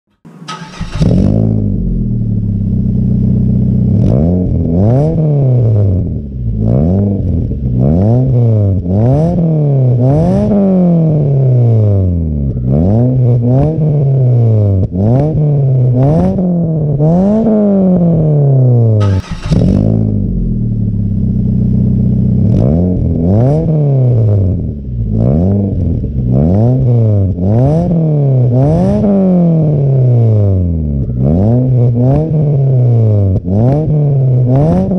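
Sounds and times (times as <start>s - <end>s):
car engine revving: 0.1s - 34.9s
car engine starting: 0.1s - 34.9s.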